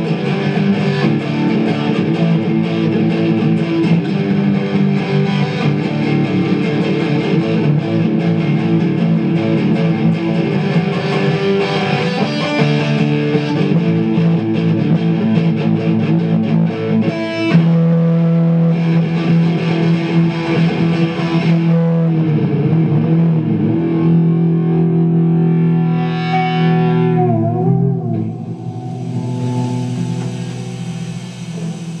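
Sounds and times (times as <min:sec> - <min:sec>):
distorted electric guitar: 0:00.0 - 0:32.0.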